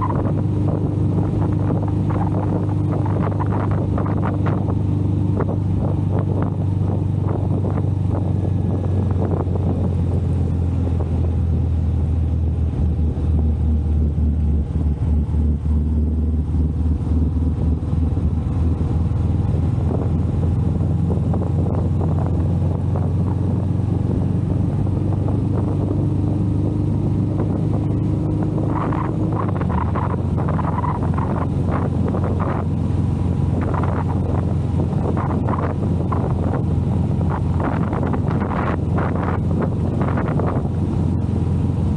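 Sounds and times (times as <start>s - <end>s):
motorcycle engine droning: 0.0s - 41.9s
wind noise on microphone: 0.0s - 41.9s.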